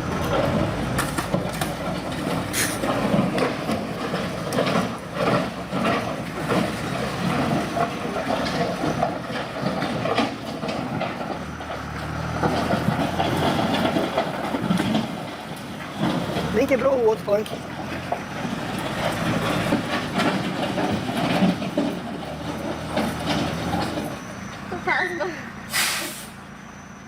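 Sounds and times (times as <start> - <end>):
clattering and knocks: 0.0 - 24.3
heavy machine running: 0.0 - 27.0.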